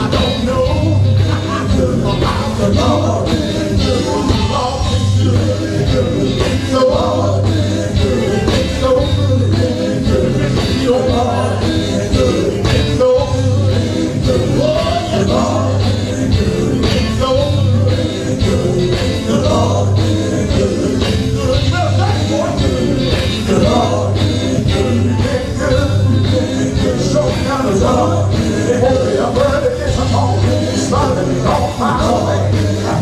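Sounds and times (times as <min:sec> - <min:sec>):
gospel band playing: 0:00.0 - 0:33.0
singing: 0:00.0 - 0:33.0.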